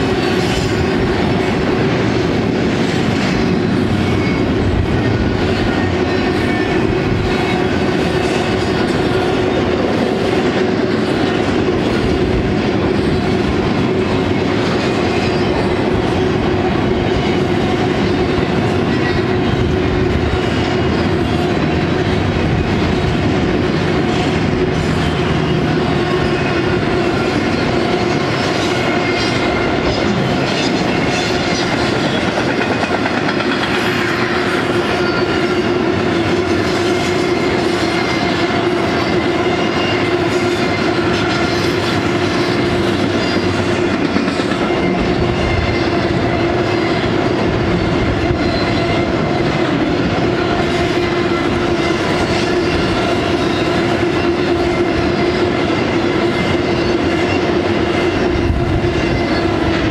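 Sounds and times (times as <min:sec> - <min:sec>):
steel wheels on rail: 0:00.0 - 0:59.9.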